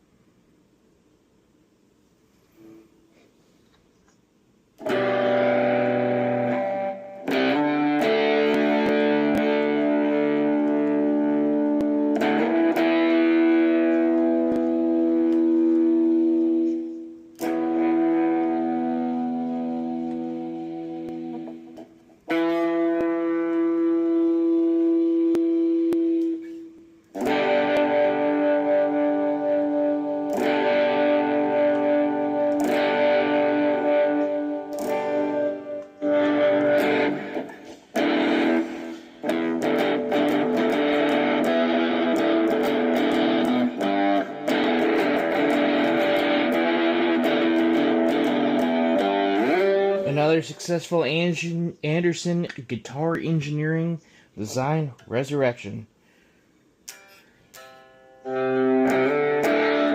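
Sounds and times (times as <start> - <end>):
distorted electric guitar chords: 4.8 - 52.3, 56.8 - 59.9.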